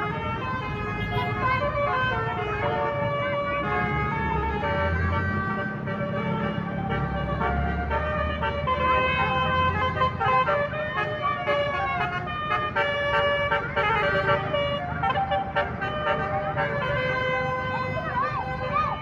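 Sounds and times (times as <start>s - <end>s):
multi-trumpet air horn: 0.9s - 19.0s.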